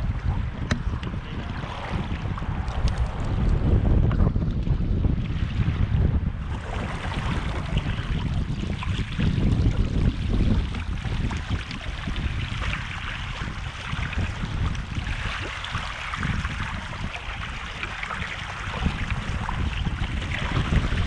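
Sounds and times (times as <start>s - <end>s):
water rushing along hull: 0.0s - 21.0s
wind buffeting microphone: 0.0s - 21.0s.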